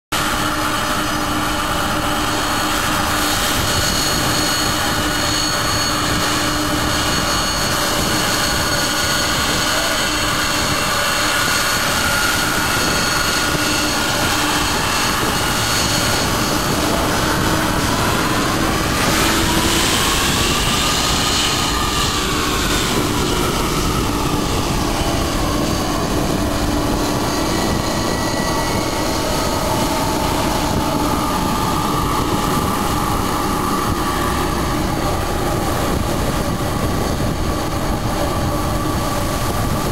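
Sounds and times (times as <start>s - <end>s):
jet engines running with high whine: 0.1s - 39.9s.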